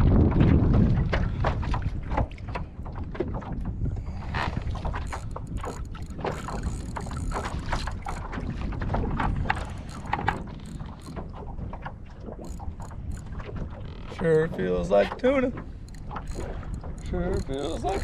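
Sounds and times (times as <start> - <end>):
small waves slapping hull: 0.0 - 18.0
wind buffeting microphone: 0.0 - 18.0.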